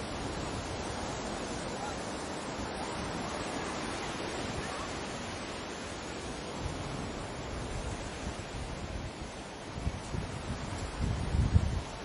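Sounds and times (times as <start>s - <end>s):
surf washing in: 0.0s - 12.0s
wind: 0.0s - 12.0s.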